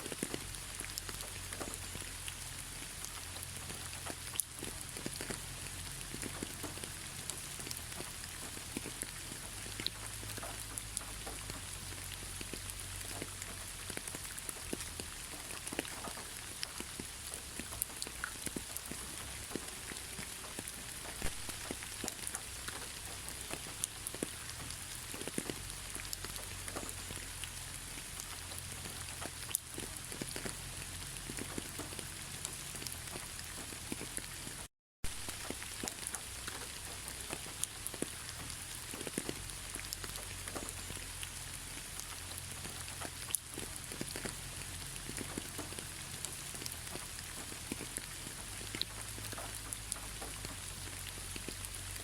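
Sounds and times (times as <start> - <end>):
rain falling: 0.0 - 52.0
raindrops tapping: 0.0 - 52.0.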